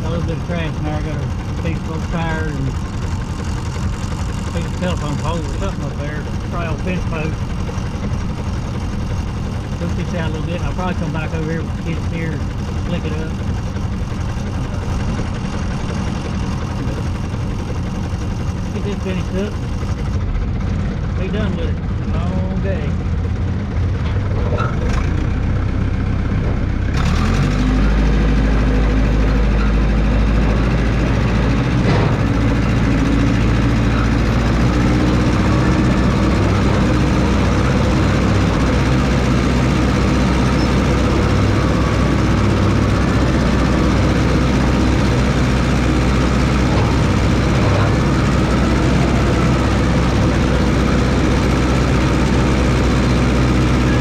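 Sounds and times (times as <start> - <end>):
dozer engine running: 0.0 - 54.0.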